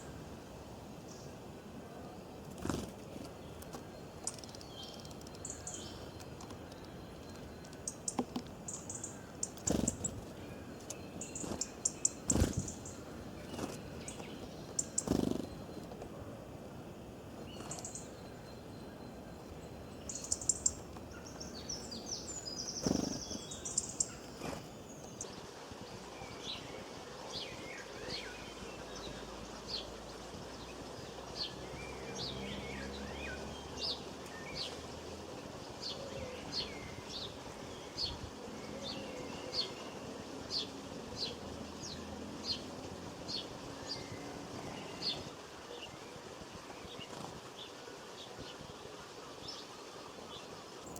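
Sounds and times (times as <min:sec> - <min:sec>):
small birds chirping: 0:00.0 - 0:50.9
steady background hiss: 0:00.0 - 0:50.9.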